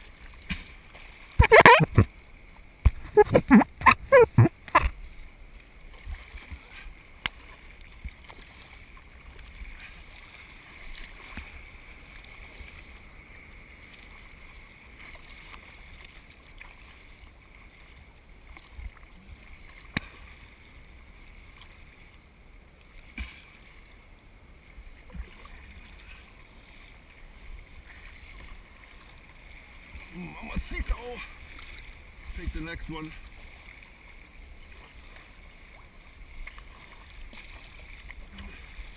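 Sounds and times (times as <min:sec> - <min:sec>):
faint water and wind noise: 0:00.0 - 0:38.9.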